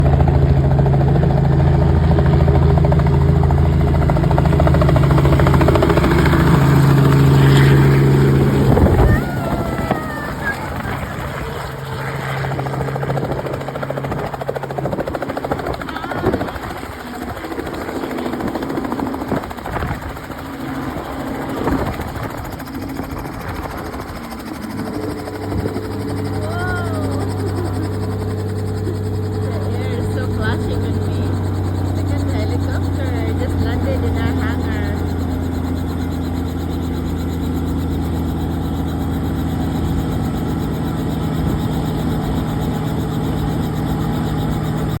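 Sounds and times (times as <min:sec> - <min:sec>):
helicopter engine running: 0:00.0 - 0:45.0
helicopter rotor chopping: 0:00.0 - 0:45.0.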